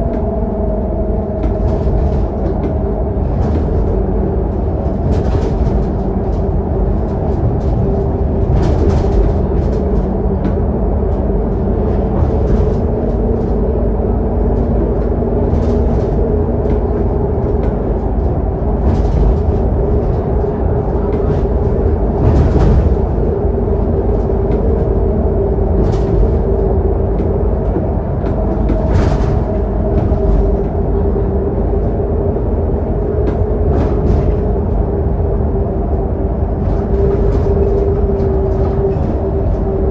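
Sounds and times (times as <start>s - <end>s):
bus diesel engine rumble: 0.0s - 39.9s
road noise: 0.0s - 39.9s.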